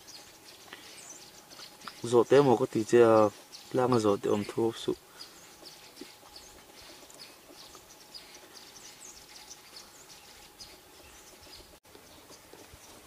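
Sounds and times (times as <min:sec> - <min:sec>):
quiet forest background: 0:00.0 - 0:13.0
small birds chirping: 0:00.0 - 0:13.0.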